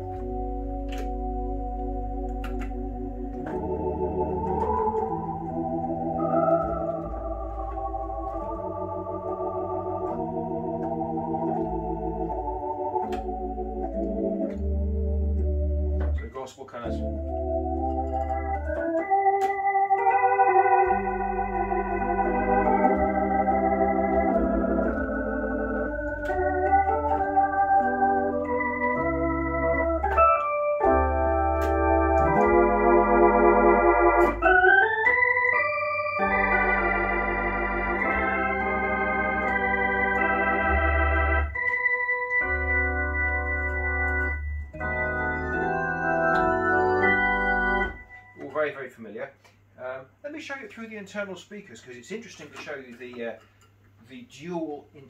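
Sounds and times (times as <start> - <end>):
deep pedal bass notes: 0.0 - 48.1
organ glissando: 0.0 - 48.9
organ playing held chords: 0.0 - 48.9.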